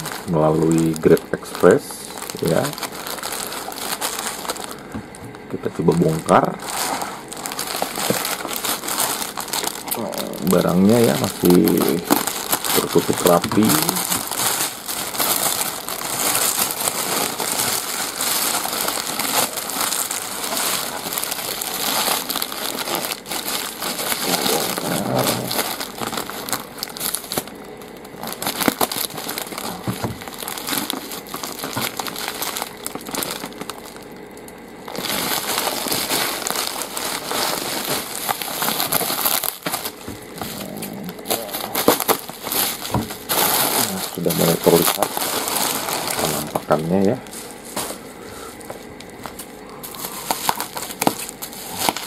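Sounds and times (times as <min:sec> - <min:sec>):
plastic bag and bubble wrap crinkling: 0:00.0 - 0:52.0.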